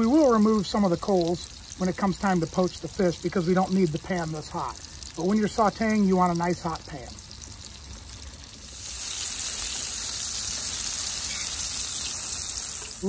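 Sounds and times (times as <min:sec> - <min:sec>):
lemon slices sizzling in oil: 0:00.0 - 0:13.0.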